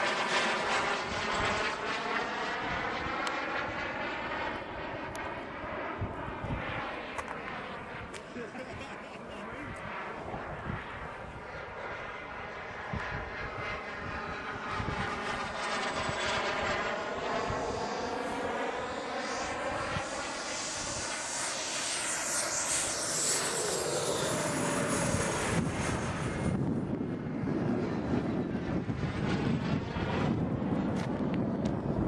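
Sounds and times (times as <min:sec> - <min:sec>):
model jet turbine whine passing: 0:00.0 - 0:32.0.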